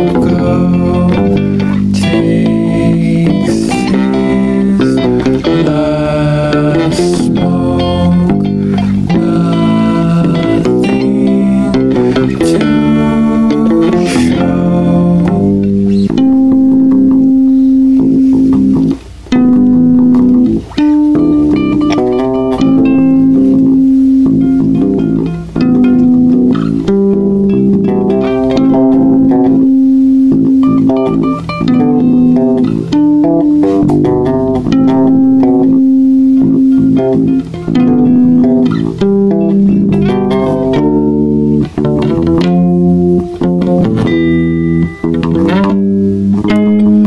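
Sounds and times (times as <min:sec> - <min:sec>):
bass guitar playing: 0:00.0 - 0:47.0
guitar playing: 0:00.0 - 0:47.0.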